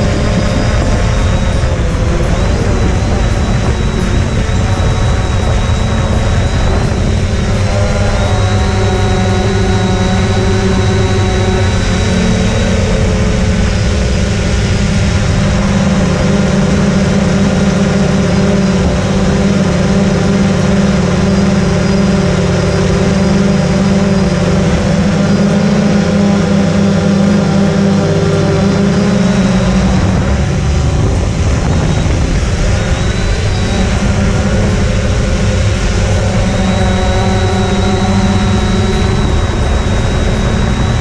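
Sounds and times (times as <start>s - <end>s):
quadcopter propellers droning: 0.0s - 41.0s.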